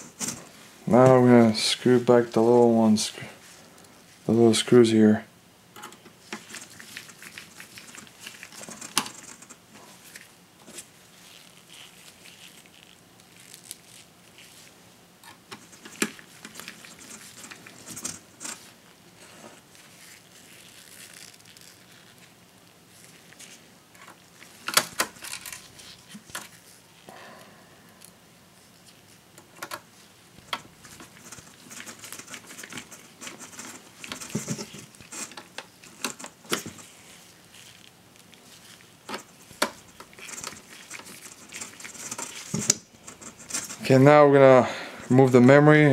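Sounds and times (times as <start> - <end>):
gloved hands rustling: 0.0 - 4.9, 6.1 - 27.1, 28.4 - 45.9.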